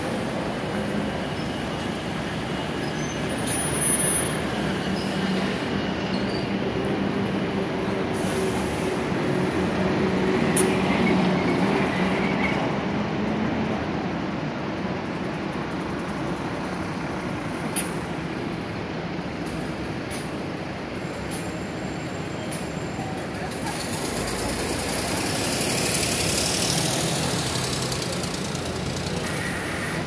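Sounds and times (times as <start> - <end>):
bus engine hum: 0.0 - 30.0.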